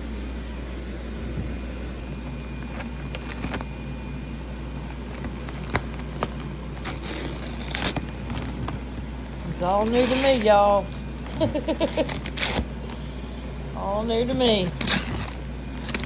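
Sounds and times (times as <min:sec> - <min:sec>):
steady low hum: 0:00.0 - 0:16.0
crinkling rustles: 0:02.0 - 0:13.6, 0:14.2 - 0:16.0.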